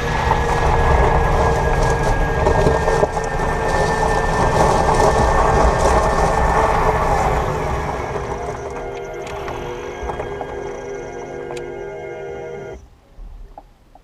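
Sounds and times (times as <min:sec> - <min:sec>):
road and tyre rumble: 0:00.0 - 0:12.8
high drivetrain whine: 0:00.0 - 0:12.9.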